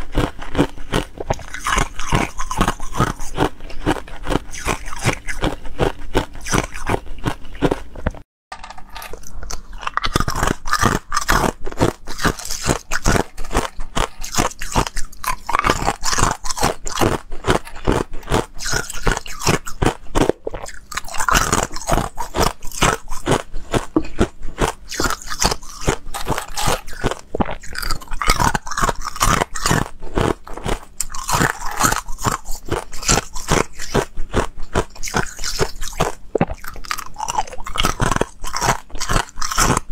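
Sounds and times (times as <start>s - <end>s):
ice cubes crunched by teeth: 0.0s - 39.9s.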